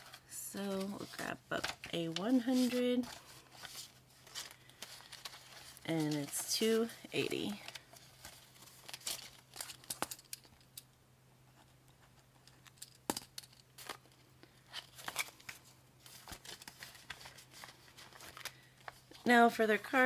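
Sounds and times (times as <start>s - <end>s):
banknotes rustling: 0.0s - 10.6s, 13.5s - 20.0s
vinyl sleeve crinkling: 0.0s - 10.8s, 11.9s - 19.4s
faint steady hum: 0.0s - 20.0s.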